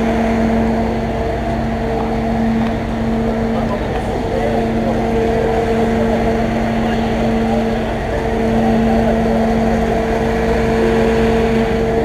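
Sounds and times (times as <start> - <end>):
fire truck engine running: 0.0 - 12.0.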